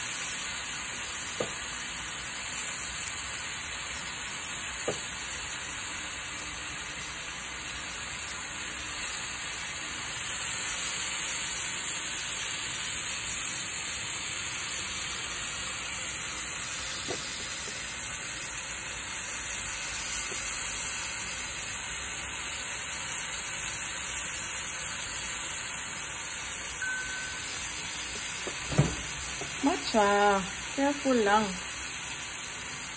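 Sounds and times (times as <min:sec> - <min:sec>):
meat sizzling on a grill: 0:00.0 - 0:32.9.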